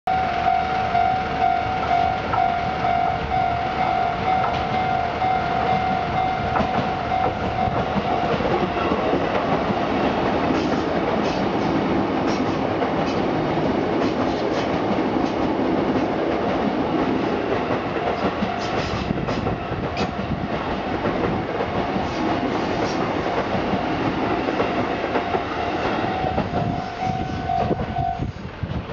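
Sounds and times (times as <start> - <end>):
level-crossing warning bell clanging: 0.1 - 28.3
train rumbling past: 0.1 - 28.9.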